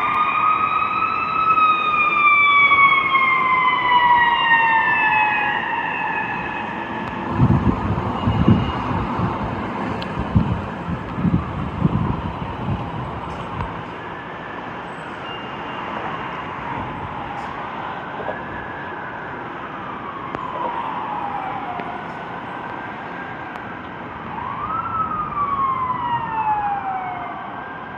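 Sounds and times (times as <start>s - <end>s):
emergency sirens wailing: 0.0s - 27.9s.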